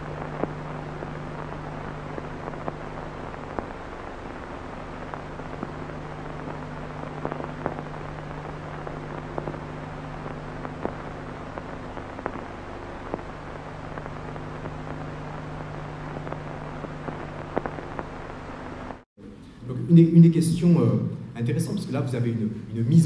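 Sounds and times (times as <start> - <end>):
clicks and crackles: 0.0 - 19.0
film hiss: 0.0 - 23.0
low hum: 0.0 - 23.0.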